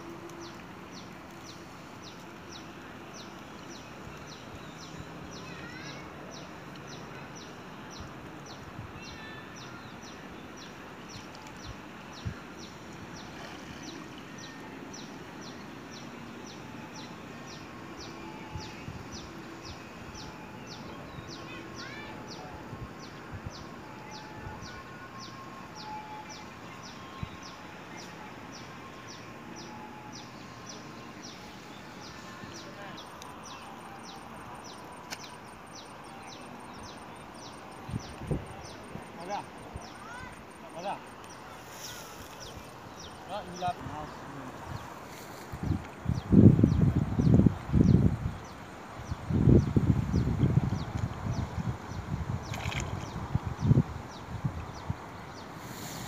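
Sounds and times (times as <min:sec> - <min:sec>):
background hiss: 0:00.0 - 0:52.5, 0:53.1 - 0:56.0.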